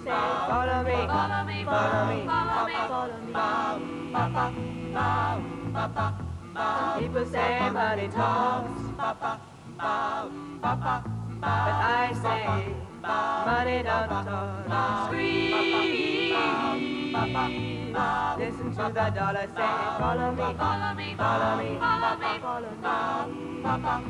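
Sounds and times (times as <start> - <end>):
backing music with bass line: 0.0 - 2.7, 3.4 - 22.2, 23.3 - 24.0
women singing pop song: 0.0 - 24.0.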